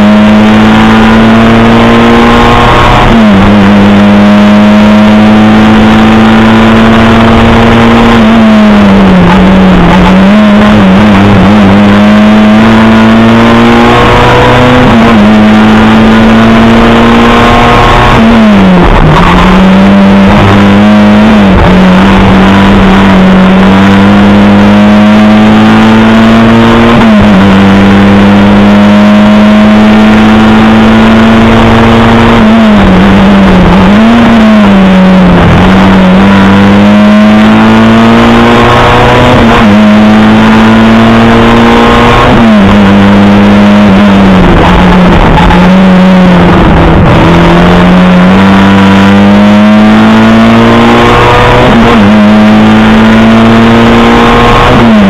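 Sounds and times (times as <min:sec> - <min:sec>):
loud car engine revving: 0:00.0 - 0:55.0.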